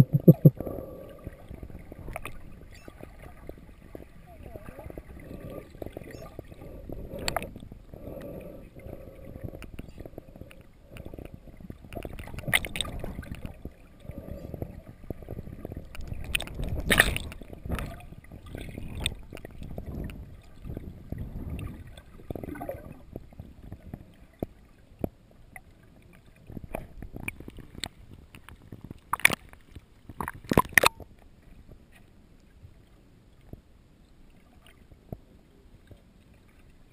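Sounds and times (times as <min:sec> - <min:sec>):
water rushing and gurgling underwater: 0:00.0 - 0:36.9.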